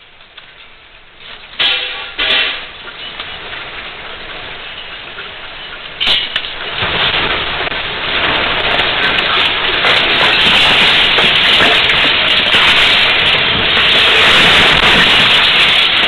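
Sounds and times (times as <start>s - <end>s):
earthquake shaking noise: 1.2s - 16.0s.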